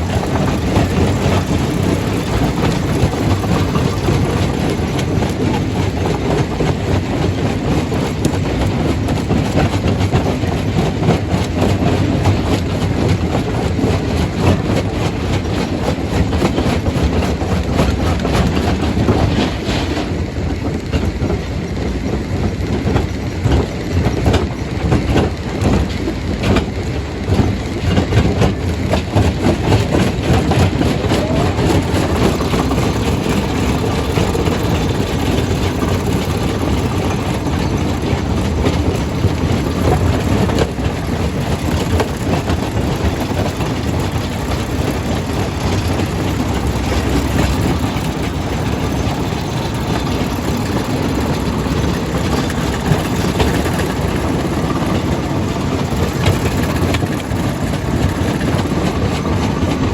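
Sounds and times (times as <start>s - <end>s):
rock crusher rumbling: 0.0s - 9.1s, 9.7s - 59.9s.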